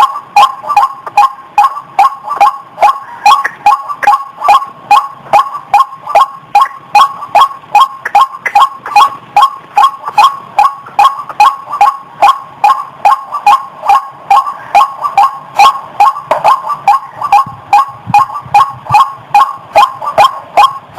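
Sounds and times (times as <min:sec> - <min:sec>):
waterhen calling: 0:00.0 - 0:20.9.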